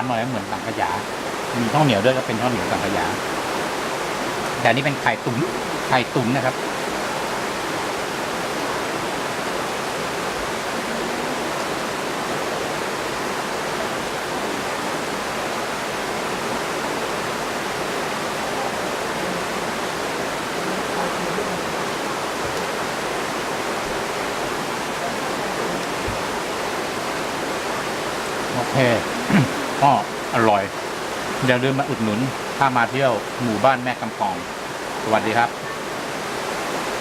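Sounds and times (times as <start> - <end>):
waterfall roaring: 0.0 - 37.0.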